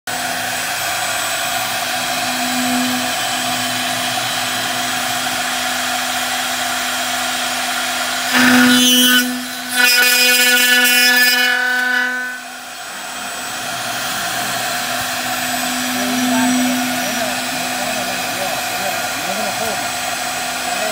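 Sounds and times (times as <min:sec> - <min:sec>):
milling spindle hum: 0:00.1 - 0:20.8
end mill cutting metal: 0:00.1 - 0:20.9.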